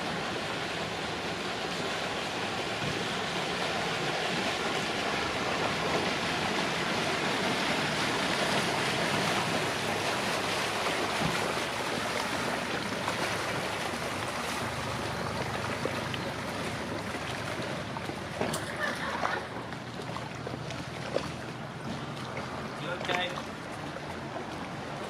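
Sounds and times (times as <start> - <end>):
boat engine humming: 0.0 - 25.0
river water rushing: 0.0 - 25.0
wind: 0.0 - 25.0.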